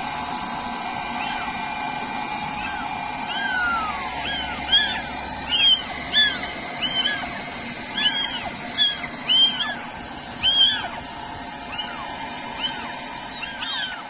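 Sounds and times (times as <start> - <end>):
kittens mewing: 0.8 - 14.0.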